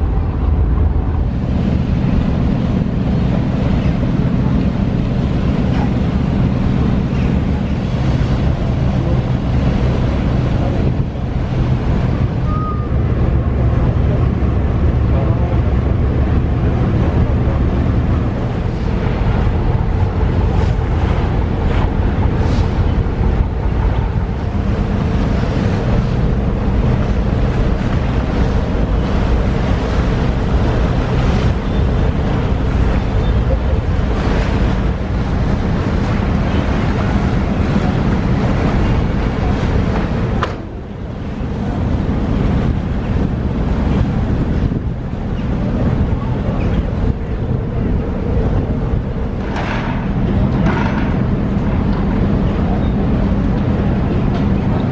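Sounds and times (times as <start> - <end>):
ferry diesel engine rumble: 0.0 - 54.9
water rushing along hull: 0.0 - 54.9
wind buffeting microphone: 0.0 - 54.9.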